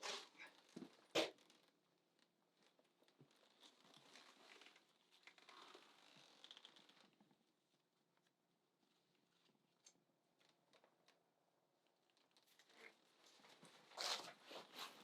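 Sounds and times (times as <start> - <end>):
faint rustling and crinkling: 0.0 - 15.0.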